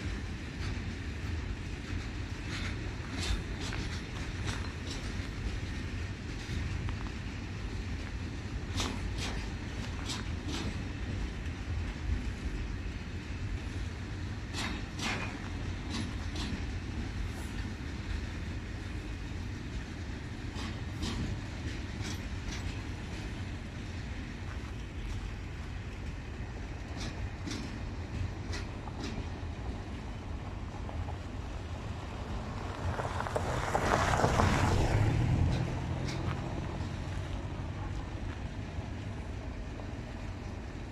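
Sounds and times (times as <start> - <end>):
freight wagons rumbling: 0.0 - 40.9
wheels clicking over rail joints: 0.0 - 40.9.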